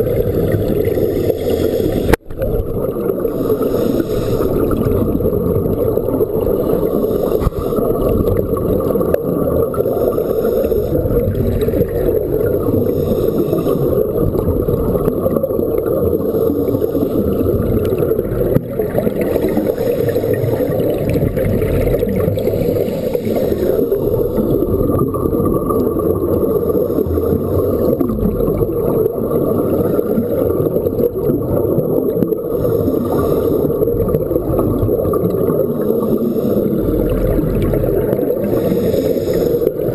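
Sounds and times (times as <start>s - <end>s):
exhaust bubbles gurgling: 0.0s - 39.9s
muffled underwater rush: 0.0s - 39.9s.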